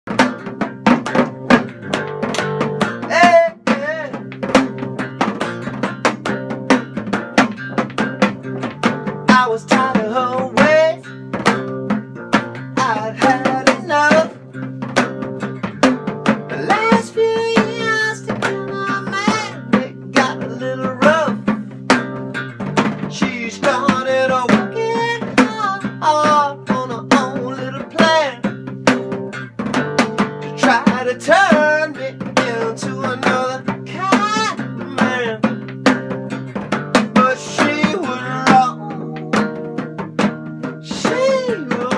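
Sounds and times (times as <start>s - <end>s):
plucked string instrument: 0.1s - 41.9s
steady drum hits: 0.1s - 41.9s.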